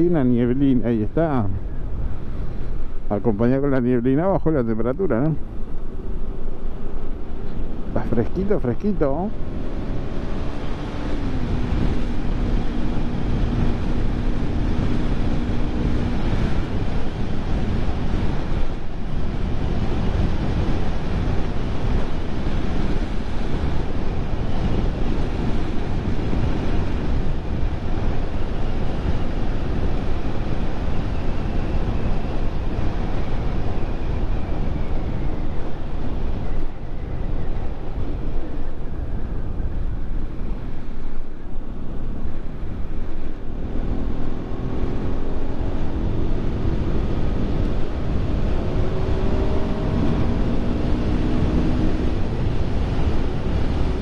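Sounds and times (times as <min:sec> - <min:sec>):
wind rushing over microphone: 0:00.0 - 0:54.0
motorcycle engine: 0:09.3 - 0:54.0.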